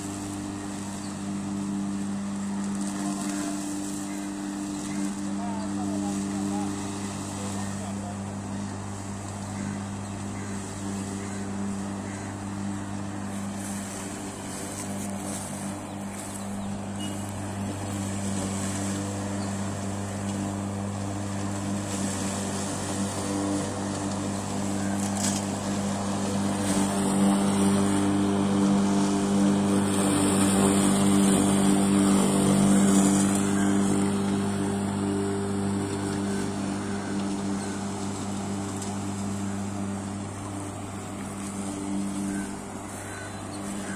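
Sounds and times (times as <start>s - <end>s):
electric lawn mower running: 0.0s - 43.9s.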